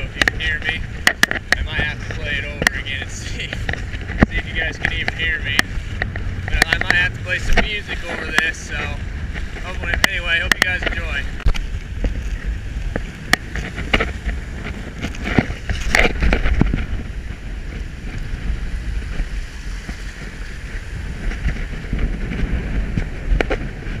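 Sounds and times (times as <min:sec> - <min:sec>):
rough surf: 0:00.0 - 0:24.0
wind buffeting microphone: 0:00.0 - 0:24.0.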